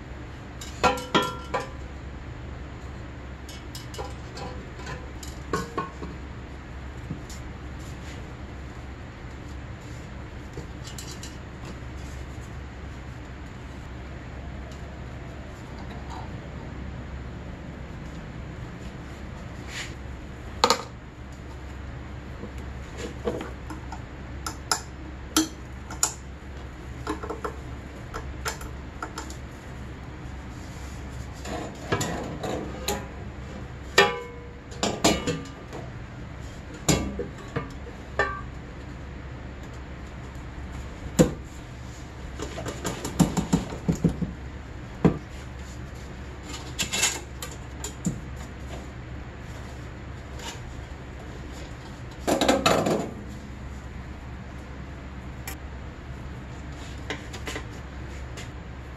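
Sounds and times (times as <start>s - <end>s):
low steady hum: 0.0s - 58.9s.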